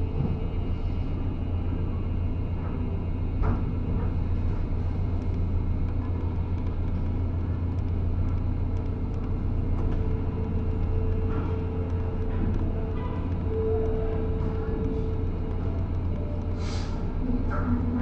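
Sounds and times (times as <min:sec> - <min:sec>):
ferry engines rumbling: 0:00.0 - 0:18.0.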